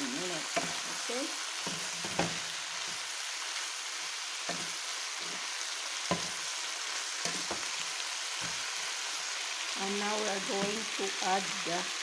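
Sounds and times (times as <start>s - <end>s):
food sizzling in hot pan: 0.0s - 12.0s.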